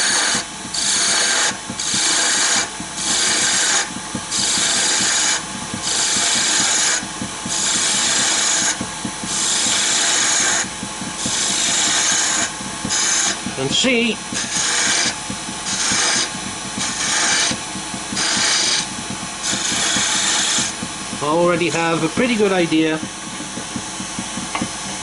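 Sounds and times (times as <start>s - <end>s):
gouge scraping wood on a lathe: 0.0s - 25.0s.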